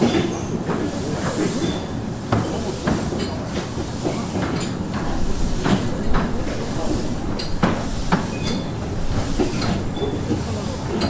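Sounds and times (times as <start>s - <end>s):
miniature steam train rumble: 0.0s - 11.0s.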